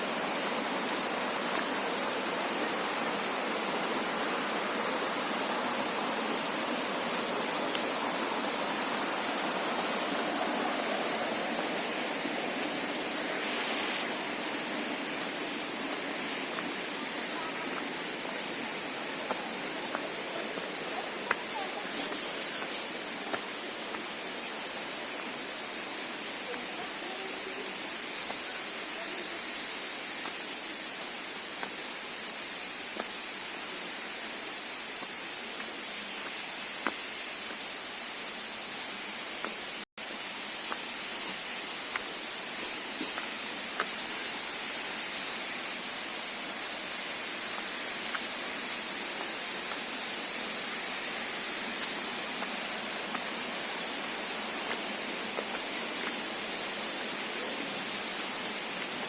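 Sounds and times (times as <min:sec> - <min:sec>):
outdoor hiss: 0:00.0 - 0:59.0.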